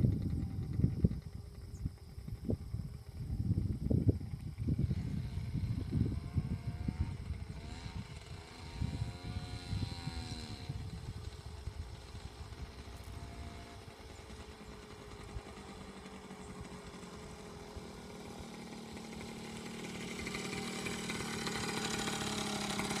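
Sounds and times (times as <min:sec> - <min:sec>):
small engine revving: 0:00.0 - 0:23.0.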